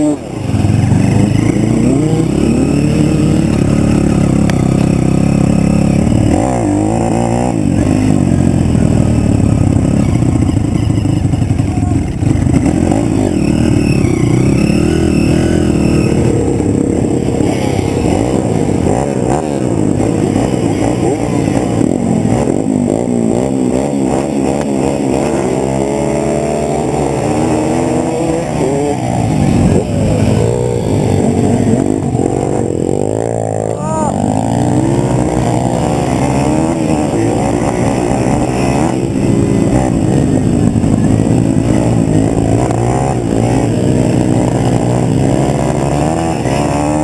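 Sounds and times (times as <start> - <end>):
pit bike engine revving: 0.0 - 47.0.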